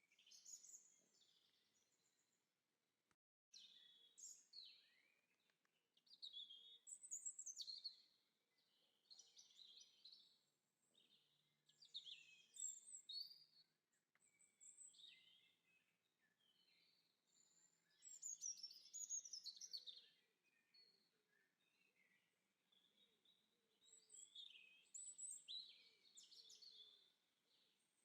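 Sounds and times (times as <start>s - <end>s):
songbird singing: 0.0s - 2.2s, 3.6s - 28.0s.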